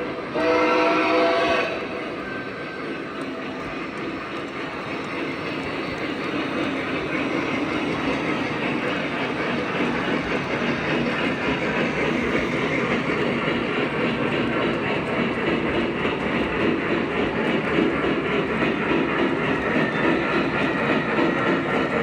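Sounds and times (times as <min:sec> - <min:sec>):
model train motor and wheels rumbling: 0:00.0 - 0:22.0.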